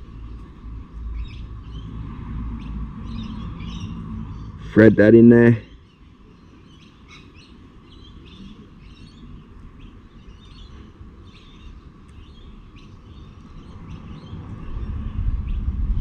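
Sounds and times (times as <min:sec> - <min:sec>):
low steady rumble: 0:00.0 - 0:16.0
small birds chirping: 0:00.0 - 0:16.0.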